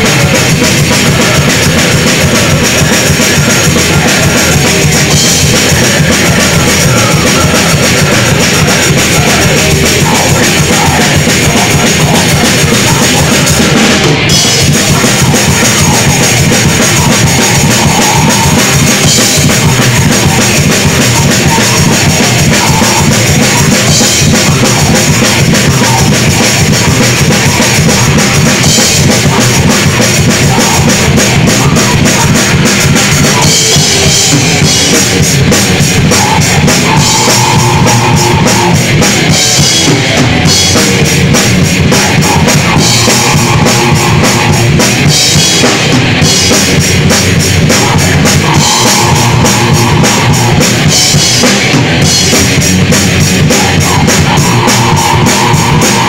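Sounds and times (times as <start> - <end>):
heavy metal band playing live: 0.0 - 56.0.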